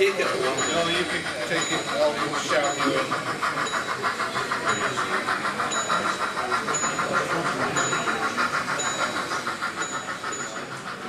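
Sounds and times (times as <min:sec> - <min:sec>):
model train rhythmic chatter: 0:00.0 - 0:11.0.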